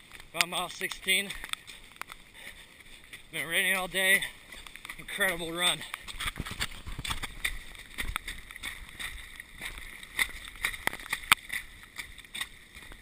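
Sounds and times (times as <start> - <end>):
footsteps splashing through mud: 0.0 - 13.0.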